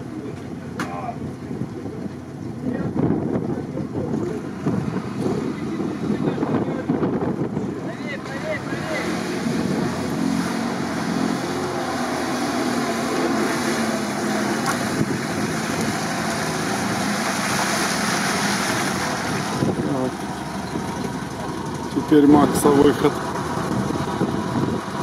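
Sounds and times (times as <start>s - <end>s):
engine running under load: 0.0s - 25.0s
water splashing around wheels: 0.0s - 25.0s.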